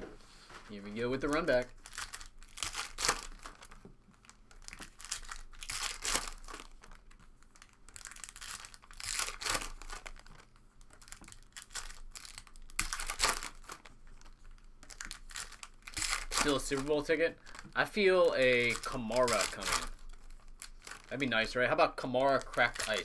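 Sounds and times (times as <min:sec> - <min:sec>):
foil wrappers crinkling and tearing: 0:00.8 - 0:23.0.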